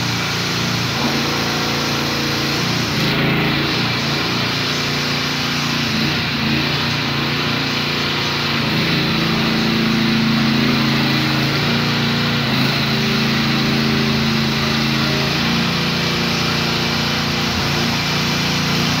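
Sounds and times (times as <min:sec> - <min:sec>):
petrol engine running: 0:00.0 - 0:19.0.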